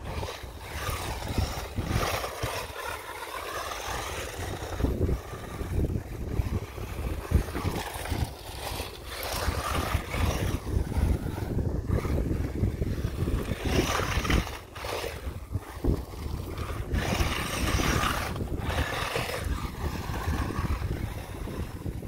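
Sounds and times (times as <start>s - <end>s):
toy truck motor and tyres: 0.0s - 22.0s
wind rumble on microphone: 0.0s - 22.0s.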